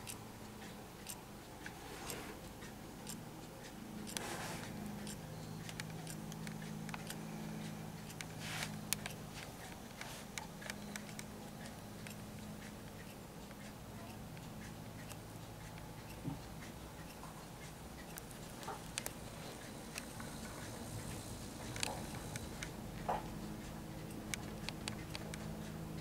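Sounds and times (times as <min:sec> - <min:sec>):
light clicks and ticks: 0:00.0 - 0:26.0.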